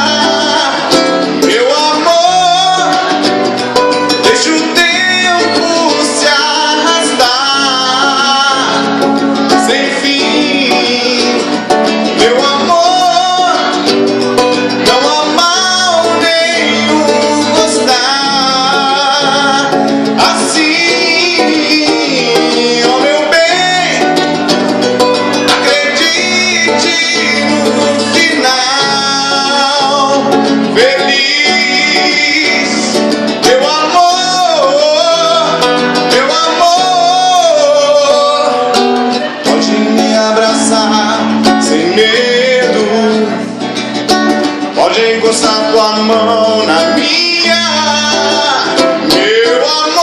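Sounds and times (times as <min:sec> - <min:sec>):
acoustic guitar: 0:00.0 - 0:50.0
person singing: 0:00.0 - 0:50.0.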